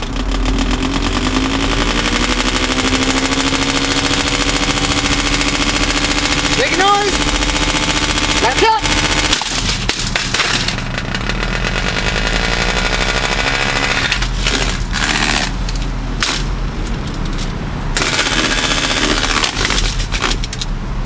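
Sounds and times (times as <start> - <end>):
box fan blades clattering: 0.0 - 20.8.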